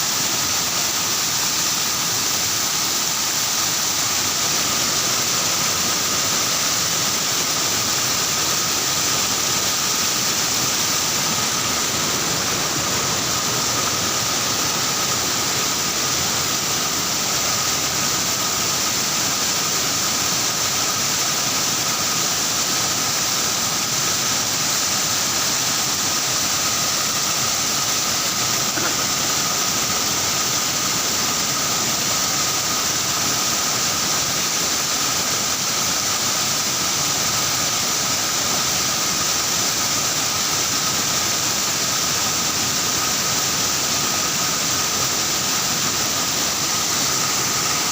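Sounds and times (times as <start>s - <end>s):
thin steady whine: 0.0s - 47.9s
water rushing: 0.0s - 47.9s.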